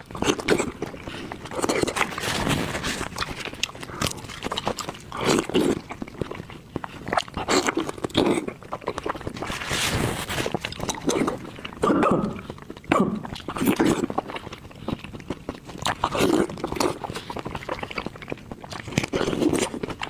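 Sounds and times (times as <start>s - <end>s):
low gulping sounds: 0.0s - 20.0s
person chewing and smacking: 0.0s - 20.0s.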